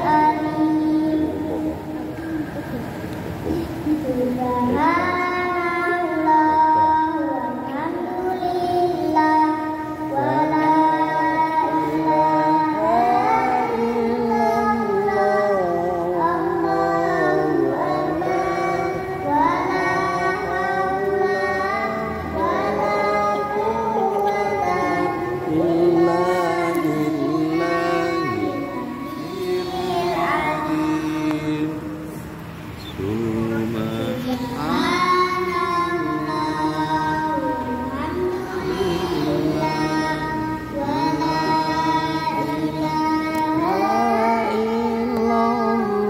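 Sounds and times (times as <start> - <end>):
boy chanting into a microphone: 0.0 - 46.0.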